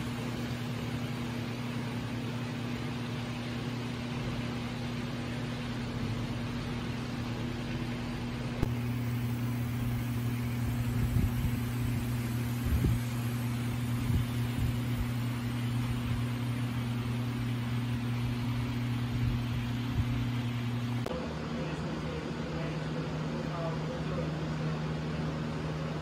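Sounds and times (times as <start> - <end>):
model train electric hum: 0.0 - 4.6, 8.6 - 26.0.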